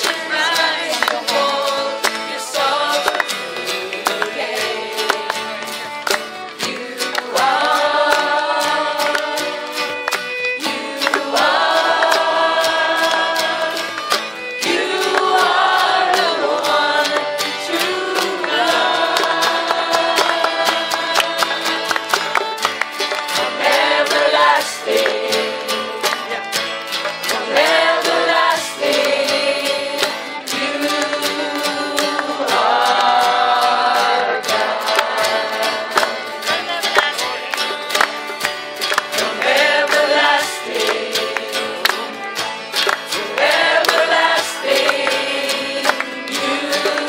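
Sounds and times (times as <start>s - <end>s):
group singing: 0.0s - 26.4s, 27.2s - 37.3s, 38.8s - 47.0s
strummed acoustic guitars: 0.0s - 47.0s
violin: 0.0s - 47.0s.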